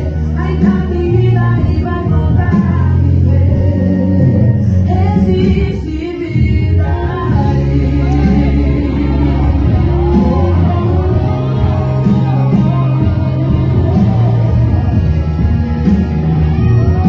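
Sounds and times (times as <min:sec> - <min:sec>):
gospel music with singing: 0:00.0 - 0:17.0.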